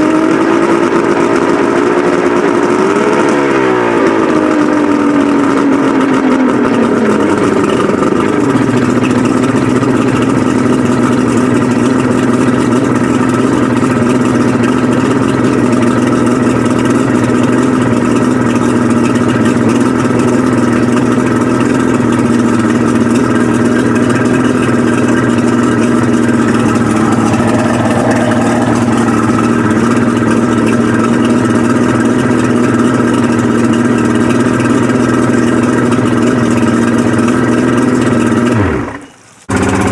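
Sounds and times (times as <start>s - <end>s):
outboard engines running: 0.0s - 39.9s.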